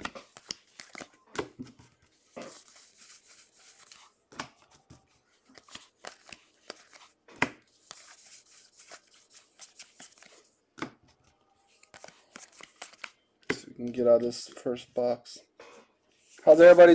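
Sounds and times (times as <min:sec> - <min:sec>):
trading cards clicking and rustling: 0:00.0 - 0:13.7.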